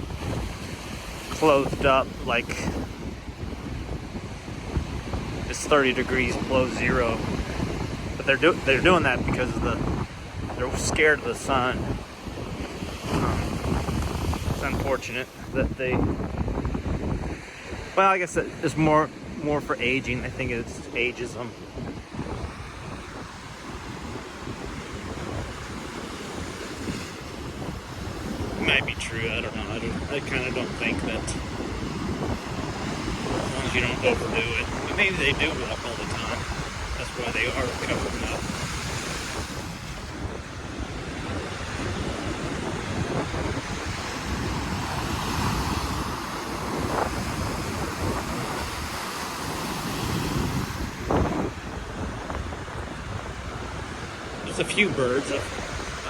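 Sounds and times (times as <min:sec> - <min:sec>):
ocean surf breaking: 0:00.0 - 0:56.0
wind blowing across microphone: 0:00.0 - 0:56.0.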